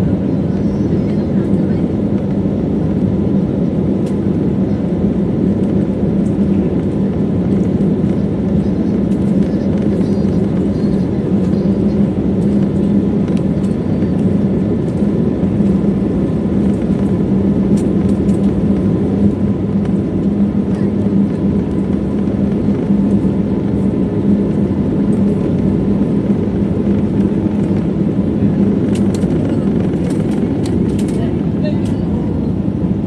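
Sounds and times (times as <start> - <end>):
jet engine drone in cabin: 0.0 - 33.0.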